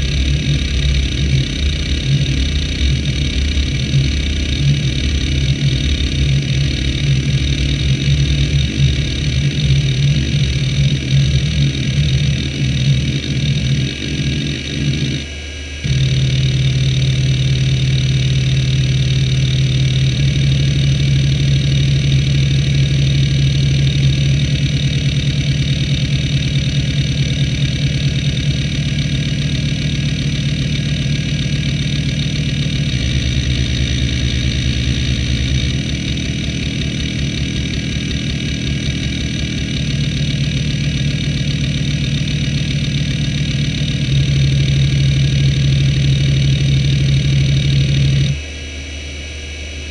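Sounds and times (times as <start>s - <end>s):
hard drive platters humming: 0.0s - 49.9s.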